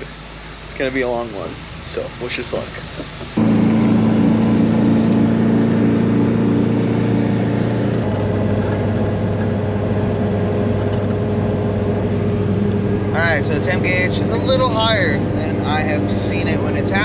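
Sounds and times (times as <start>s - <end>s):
road noise: 0.0s - 17.0s
vehicle engine droning: 0.0s - 17.0s.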